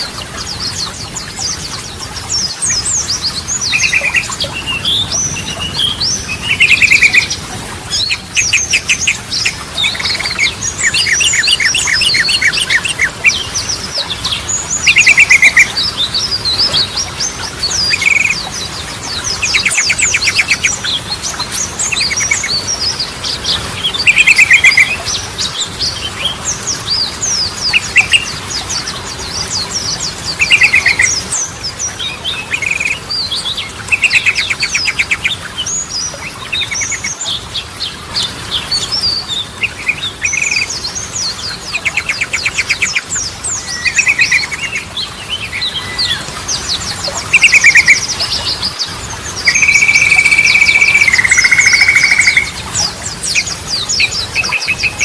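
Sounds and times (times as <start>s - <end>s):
bird chirping and trilling: 0.0s - 55.0s.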